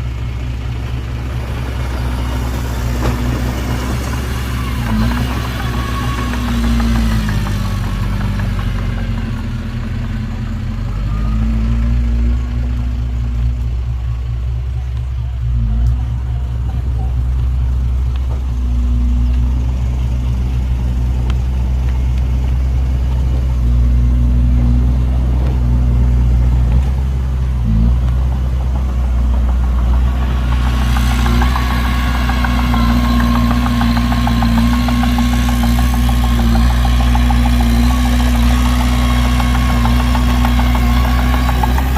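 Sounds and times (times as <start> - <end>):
heavy diesel engine droning: 0.0 - 41.9.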